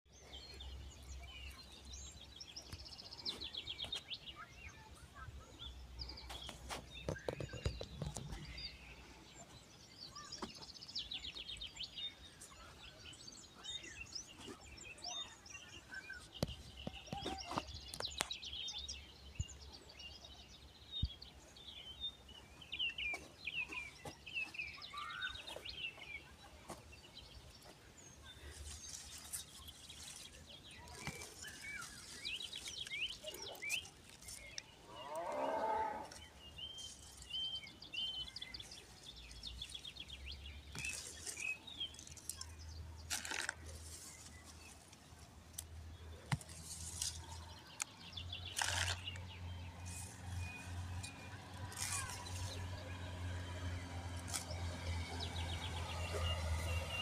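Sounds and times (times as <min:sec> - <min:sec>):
small birds chirping and trilling: 0:00.1 - 0:57.0.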